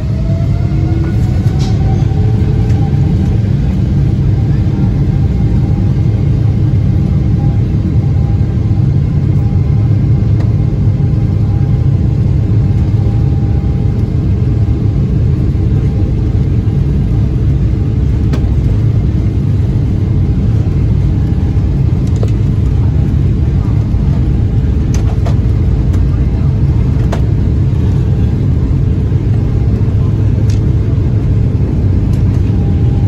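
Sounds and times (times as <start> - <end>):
low rumble of jet engines: 0.0 - 33.0.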